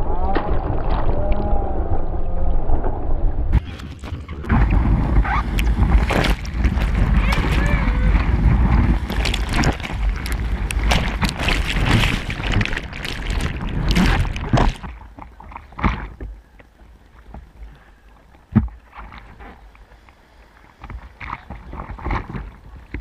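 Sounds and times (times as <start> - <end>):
sea water splashing and sloshing: 3.6 - 23.0.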